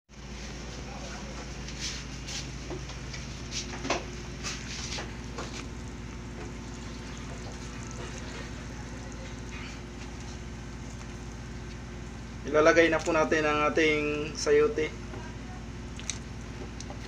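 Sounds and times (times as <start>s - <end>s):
low hum: 0.1s - 17.0s
broth boiling and bubbling: 2.1s - 17.0s.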